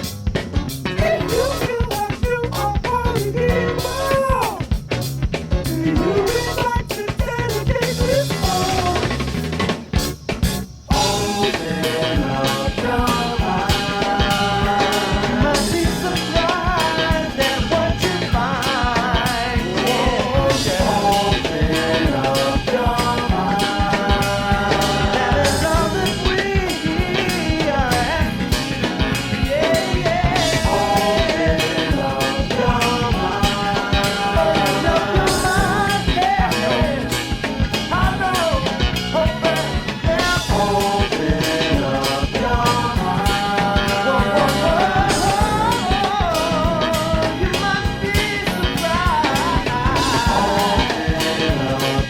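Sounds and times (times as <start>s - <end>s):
drum kit steady beat: 0.0s - 52.0s
ska rock band playing: 0.0s - 52.0s.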